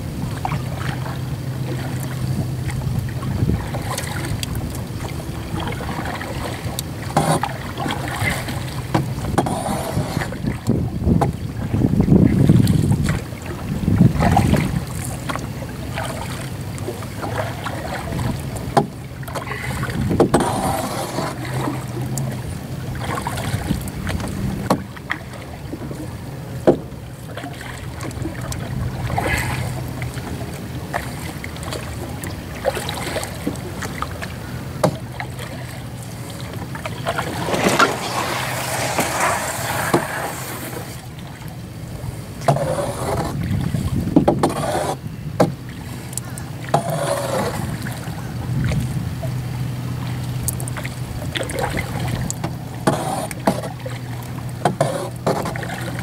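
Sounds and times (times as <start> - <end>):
paddle splashing through water: 0.0 - 56.0.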